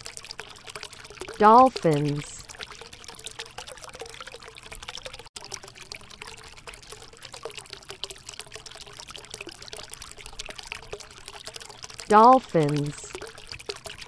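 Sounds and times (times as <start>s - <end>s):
water trickling over rocks: 0.0s - 14.0s.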